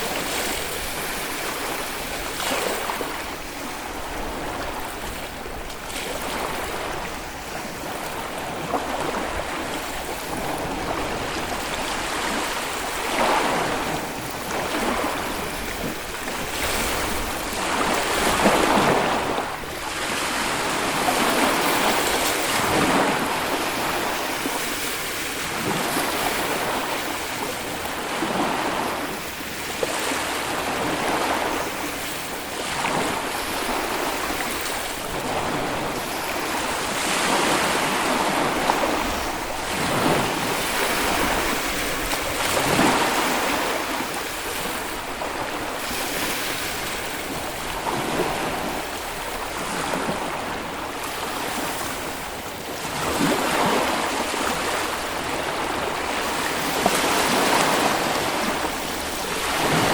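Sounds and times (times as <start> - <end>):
waves washing onto a beach: 0.0 - 59.9
wind noise on microphone: 0.0 - 59.9.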